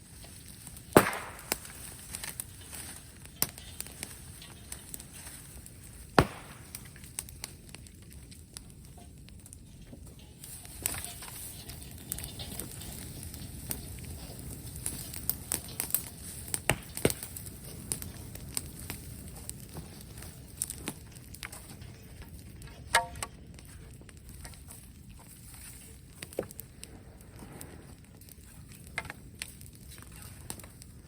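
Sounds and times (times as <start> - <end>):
bonfire crackling: 0.0 - 31.0
fire pops and snaps: 0.0 - 31.0.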